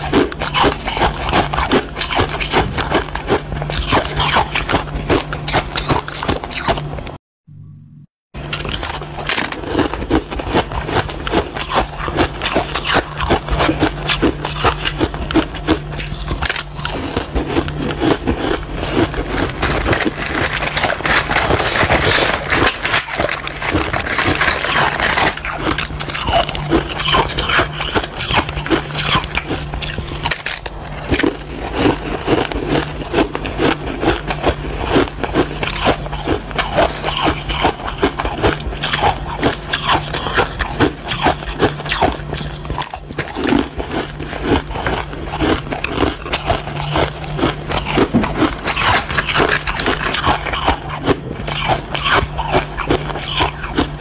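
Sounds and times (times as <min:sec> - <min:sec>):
crushed ice being chewed: 0:00.0 - 0:07.2, 0:08.4 - 0:54.0
steady low hum: 0:00.0 - 0:54.0.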